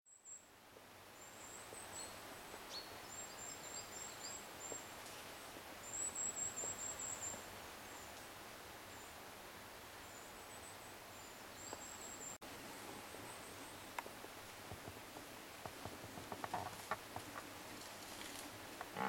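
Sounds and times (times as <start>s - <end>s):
faint steady hiss: 0.1s - 19.0s.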